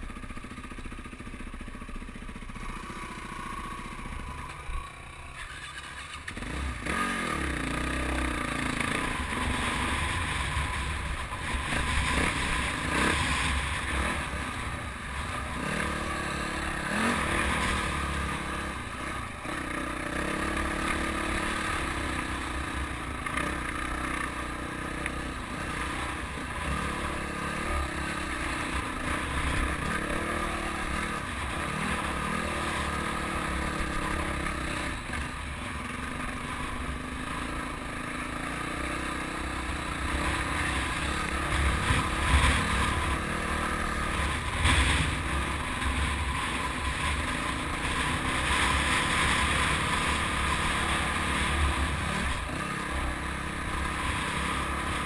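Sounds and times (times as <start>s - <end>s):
dirt bike engine: 0.0s - 55.0s.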